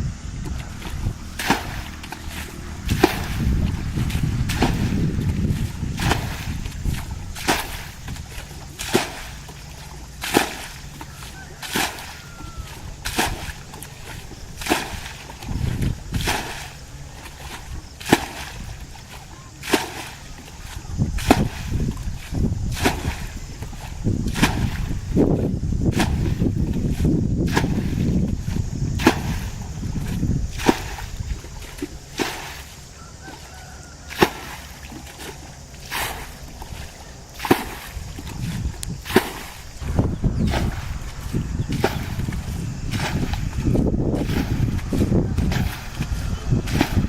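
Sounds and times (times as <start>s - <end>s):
water sloshing: 0.0s - 47.0s
slaps on water: 0.4s - 25.3s, 25.9s - 47.0s.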